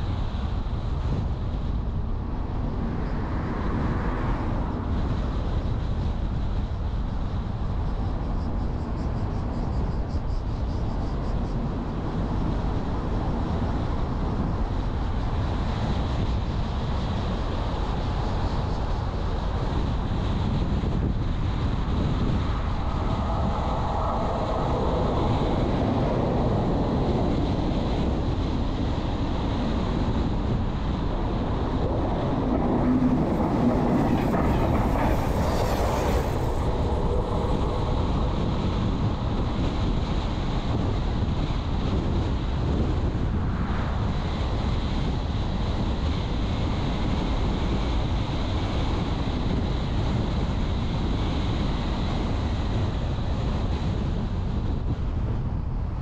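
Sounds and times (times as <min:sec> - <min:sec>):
car tyre and wind rumble: 0:00.0 - 0:56.0.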